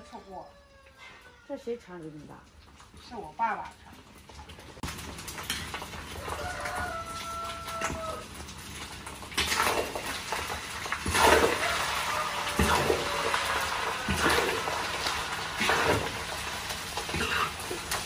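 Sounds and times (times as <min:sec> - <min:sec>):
rice sizzling in oil: 0:02.9 - 0:18.0.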